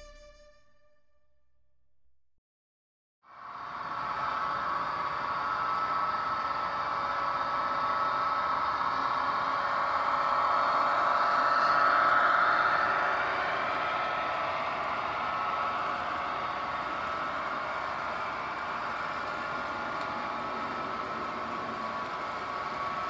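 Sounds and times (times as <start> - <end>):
model train whirring past: 3.3 - 23.0.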